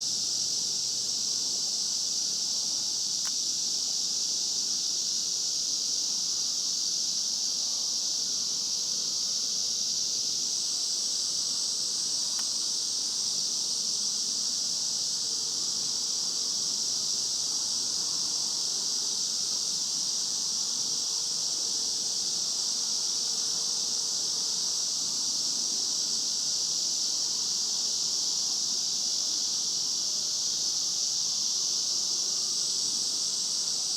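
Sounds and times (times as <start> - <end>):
cicadas singing: 0.0 - 33.9.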